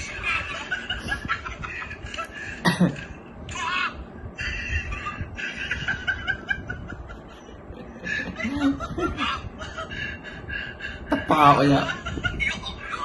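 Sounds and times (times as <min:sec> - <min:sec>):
men laughing: 0:00.0 - 0:03.8, 0:04.9 - 0:13.0.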